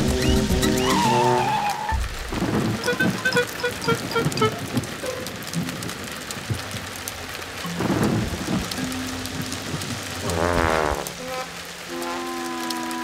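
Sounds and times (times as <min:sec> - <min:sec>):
heavy rain: 0:00.0 - 0:13.0
thunder rumble: 0:01.9 - 0:12.7.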